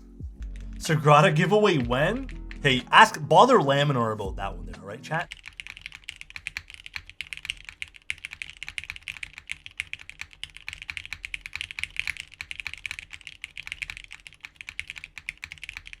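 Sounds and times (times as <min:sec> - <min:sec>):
fast mechanical keyboard typing: 0:00.5 - 0:03.1, 0:05.2 - 0:16.0.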